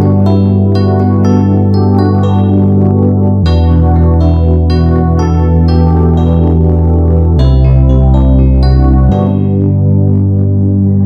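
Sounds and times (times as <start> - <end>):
keyboard music: 0.0 - 11.0.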